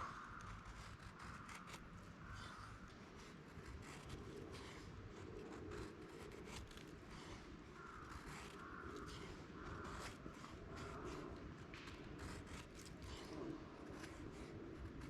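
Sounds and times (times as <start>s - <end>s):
clicks and rustles of handling: 0.0s - 15.0s.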